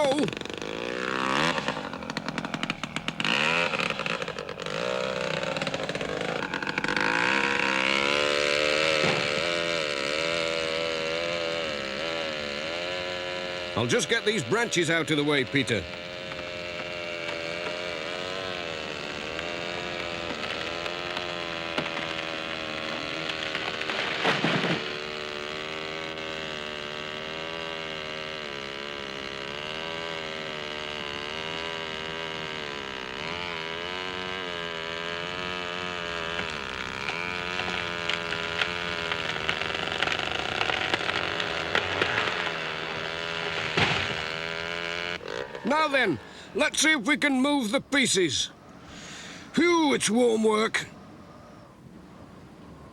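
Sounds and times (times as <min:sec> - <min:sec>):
chainsaw cutting through tree trunk: 0:00.0 - 0:47.6, 0:48.8 - 0:50.7.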